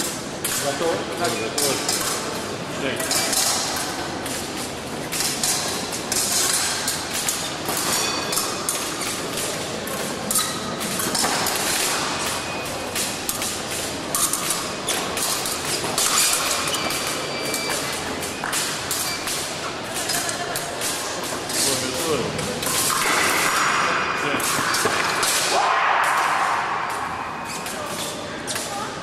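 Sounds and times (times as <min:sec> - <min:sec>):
hubbub of large hall: 0:00.0 - 0:29.0.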